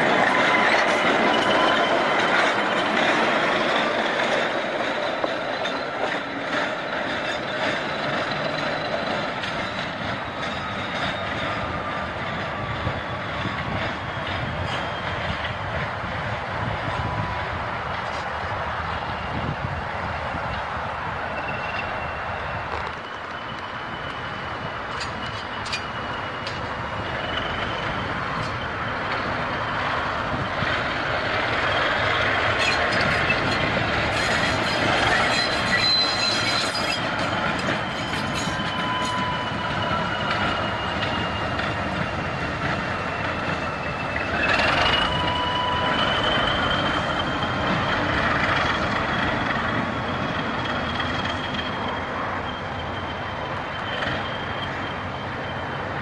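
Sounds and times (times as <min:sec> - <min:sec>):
locomotive rumble: 0:00.0 - 0:56.0
wheels squealing on rails: 0:00.0 - 0:56.0.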